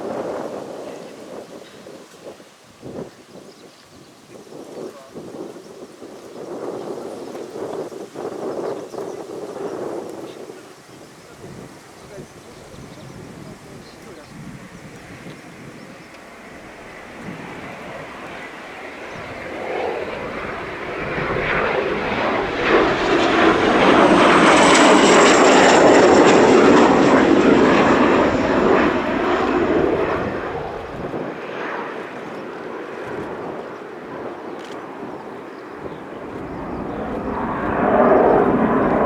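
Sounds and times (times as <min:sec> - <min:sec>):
jet aircraft flying past: 0:06.4 - 0:39.0.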